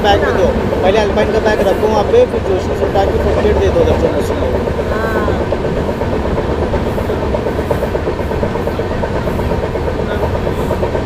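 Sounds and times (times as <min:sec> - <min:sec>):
train rumbling on rails: 0:00.0 - 0:11.0
wheels rattling over track: 0:00.0 - 0:11.0.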